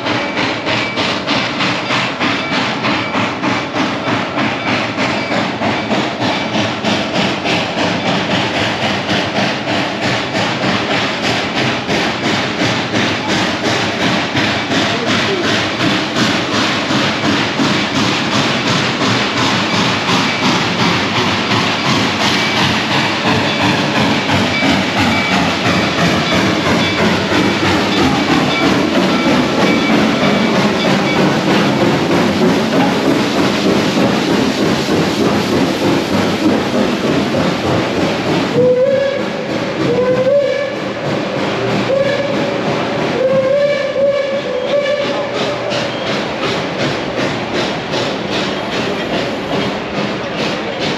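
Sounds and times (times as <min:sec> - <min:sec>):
train rhythmic clatter: 0:00.0 - 0:50.9.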